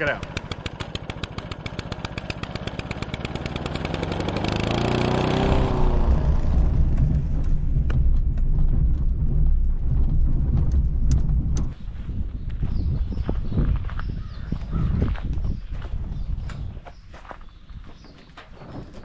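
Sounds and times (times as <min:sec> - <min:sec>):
vehicle engine pulsing and rumbling: 0:00.0 - 0:16.8.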